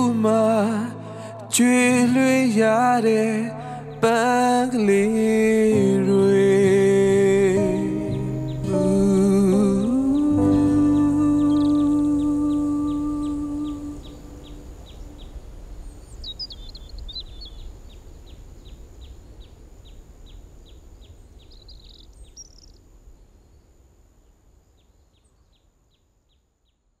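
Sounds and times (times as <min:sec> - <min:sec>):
birds chirping: 0:00.0 - 0:23.8.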